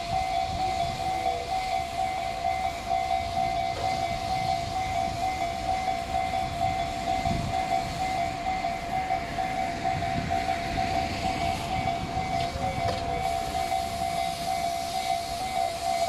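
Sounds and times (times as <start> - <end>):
level crossing bell dinging: 0.0 - 16.0
train rumbling past: 0.0 - 16.0.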